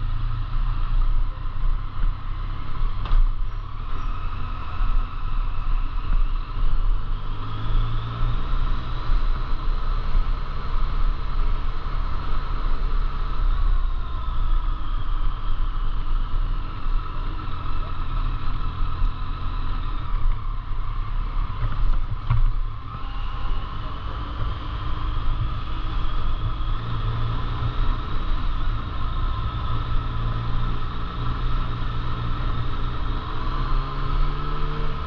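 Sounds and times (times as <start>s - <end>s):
engine droning with whine: 0.0s - 35.0s.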